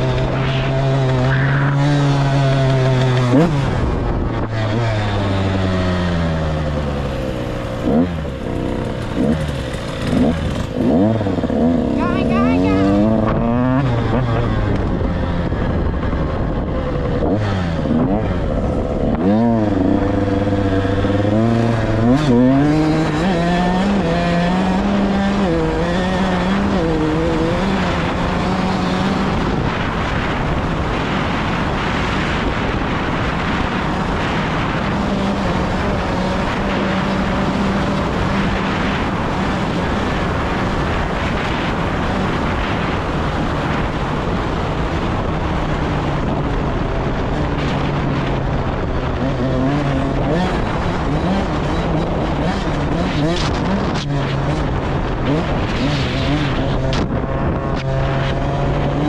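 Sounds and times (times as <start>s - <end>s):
off-road vehicle engine revving: 0.0s - 48.4s, 49.1s - 59.0s
constant rushing noise: 0.0s - 59.0s.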